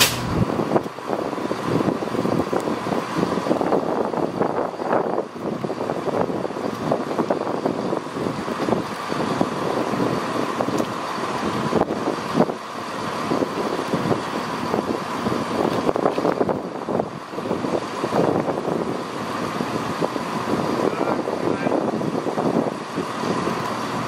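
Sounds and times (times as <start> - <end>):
train diesel engines idling: 0.0 - 24.0.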